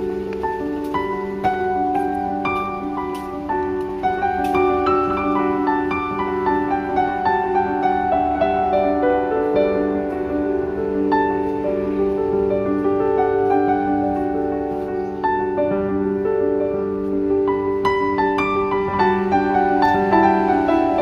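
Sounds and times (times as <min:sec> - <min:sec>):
instrumental piano music: 0:00.0 - 0:21.0.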